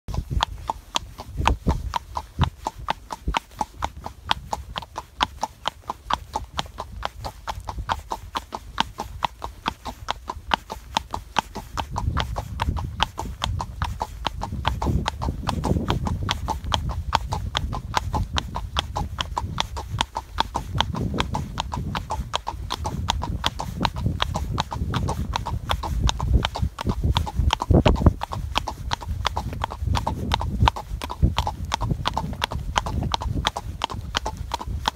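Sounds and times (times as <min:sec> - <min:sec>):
horse hooves on pavement: 0:00.1 - 0:34.9.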